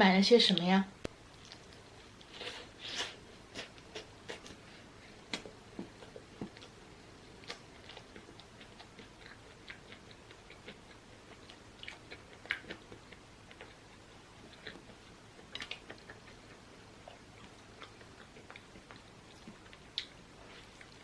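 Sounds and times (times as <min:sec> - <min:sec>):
wet mouth clicks chewing: 0:01.4 - 0:04.6, 0:07.4 - 0:21.0.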